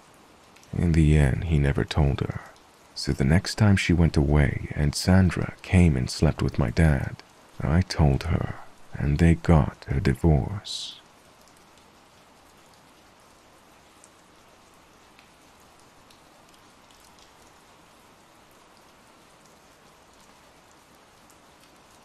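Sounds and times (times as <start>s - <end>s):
steady rain: 0.0s - 22.0s
raindrop ticks: 0.4s - 18.0s, 18.6s - 22.0s.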